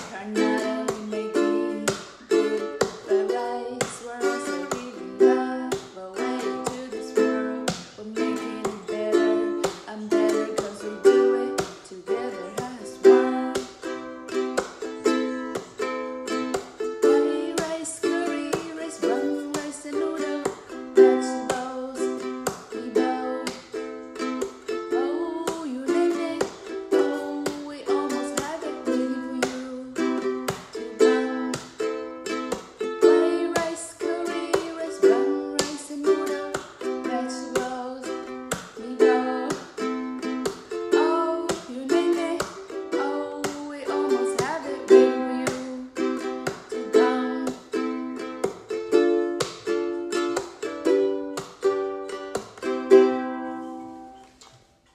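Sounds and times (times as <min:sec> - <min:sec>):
woman singing: 0:00.0 - 0:15.8, 0:16.5 - 0:31.9, 0:32.5 - 0:48.0
ukulele strumming chords: 0:00.0 - 0:54.9.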